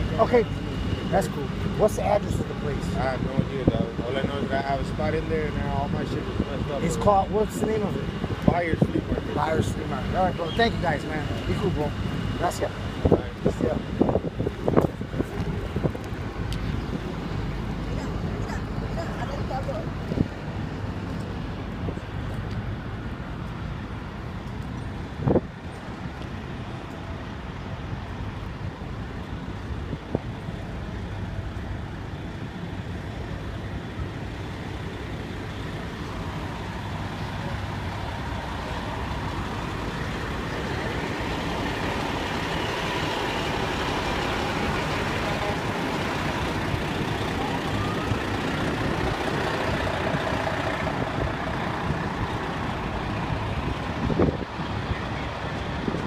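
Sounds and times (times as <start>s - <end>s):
heavy vehicle engines running: 0.0s - 56.0s
street traffic noise: 0.0s - 56.0s.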